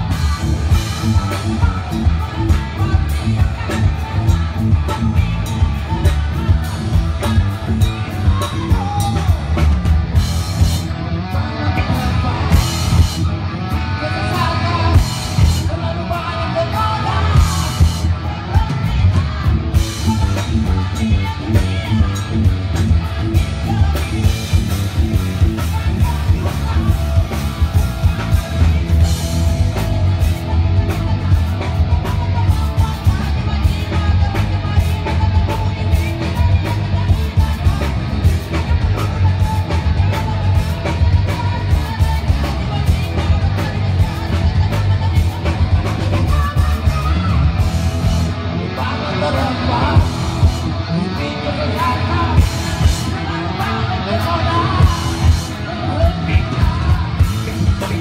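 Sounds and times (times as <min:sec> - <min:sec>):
heavy bass guitar: 0:00.0 - 0:58.0
live band playing loud: 0:00.0 - 0:58.0
person singing: 0:00.0 - 0:58.0.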